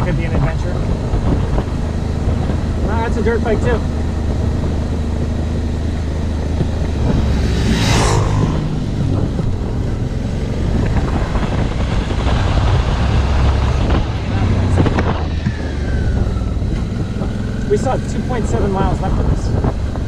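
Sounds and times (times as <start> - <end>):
motorcycle engine running: 0.0 - 20.0
dirt bike passing: 0.9 - 20.0.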